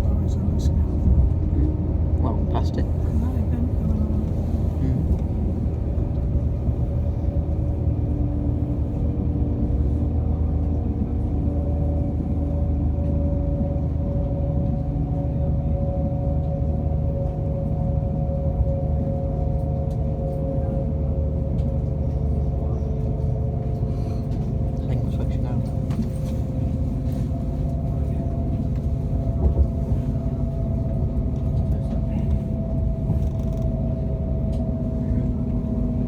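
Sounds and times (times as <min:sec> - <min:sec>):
train engine hum: 0:00.0 - 0:36.0
train wheels rumbling on track: 0:00.0 - 0:36.0.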